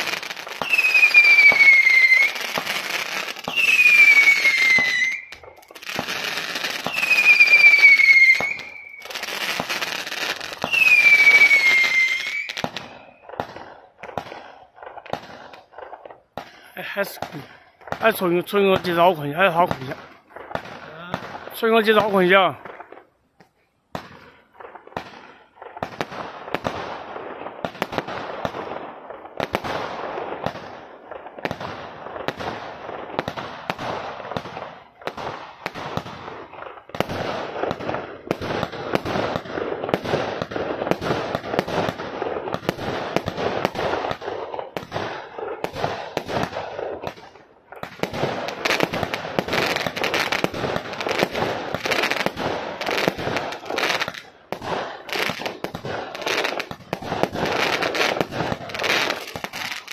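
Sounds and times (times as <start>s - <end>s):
firework crackle: 0.0s - 59.9s
firework shots bursting: 0.0s - 59.9s.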